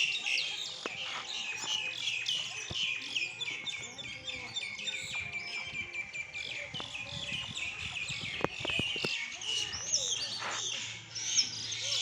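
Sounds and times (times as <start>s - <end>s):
birds chirping rapidly: 0.0s - 12.0s.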